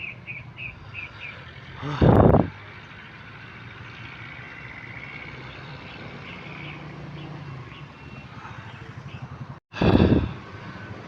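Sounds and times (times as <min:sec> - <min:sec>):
distant vehicle engine hum: 0:00.0 - 0:11.0.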